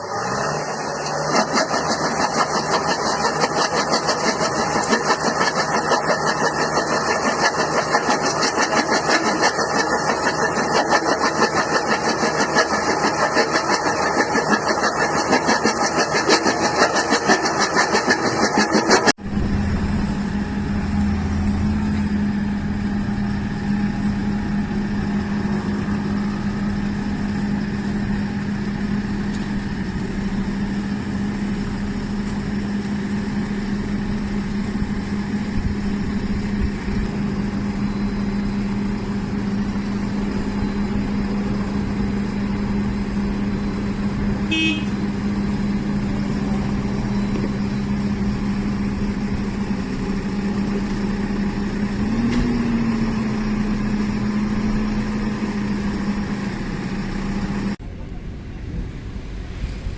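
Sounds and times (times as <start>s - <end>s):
machine engine running steadily: 0.0s - 59.9s.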